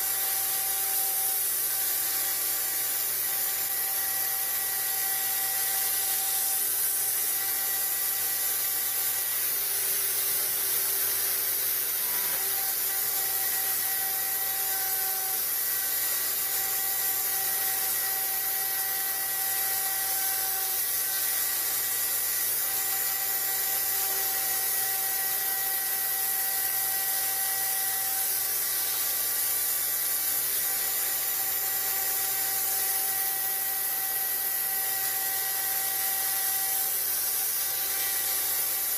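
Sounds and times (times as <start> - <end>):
cnc router spindle whine: 0.0 - 38.9.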